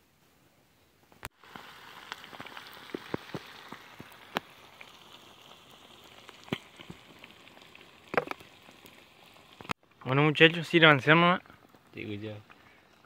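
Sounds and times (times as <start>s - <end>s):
wood fire crackling: 1.1s - 13.0s
fish frying in hot oil: 1.2s - 9.8s, 10.6s - 13.0s.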